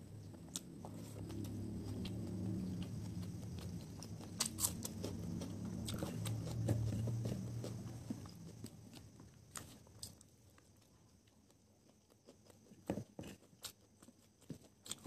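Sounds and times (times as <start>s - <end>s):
person chewing food: 0.2s - 15.0s.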